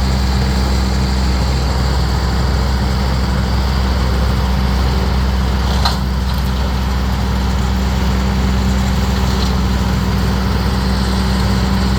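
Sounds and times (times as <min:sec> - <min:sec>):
diesel tractor engine running: 0:00.0 - 0:11.9.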